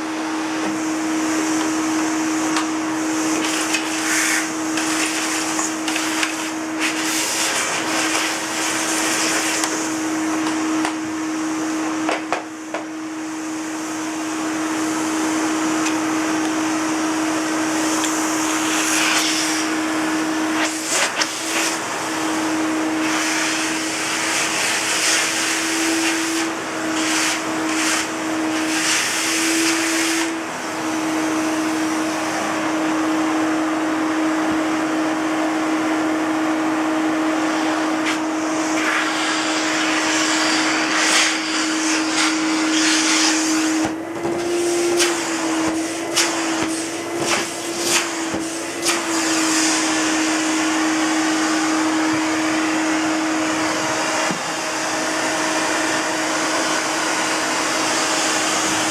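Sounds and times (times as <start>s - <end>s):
vacuum cleaner motor whining: 0.0s - 58.9s.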